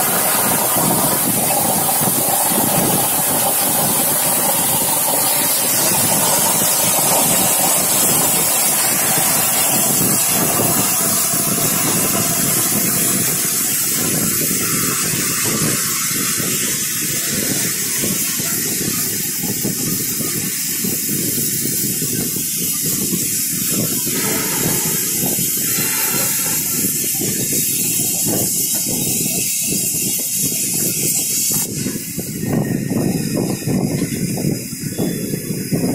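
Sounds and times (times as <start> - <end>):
plasma torch cutting steel: 0.0 - 33.4.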